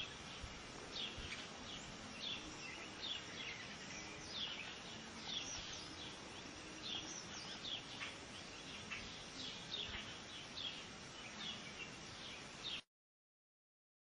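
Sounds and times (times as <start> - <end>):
ambient hiss: 0.0 - 12.8
small birds chirping: 0.0 - 12.8.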